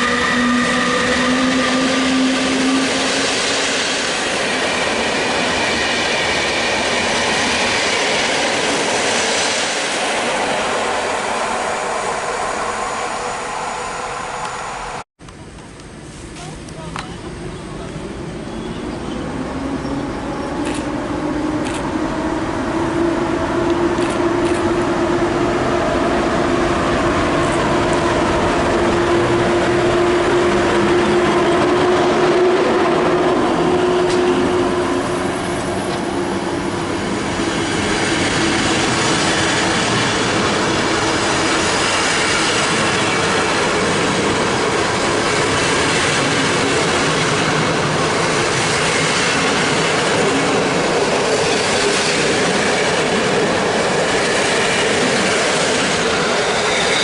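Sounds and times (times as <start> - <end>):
train wheels rolling on rail: 0.0 - 57.0
train whine: 0.0 - 57.0.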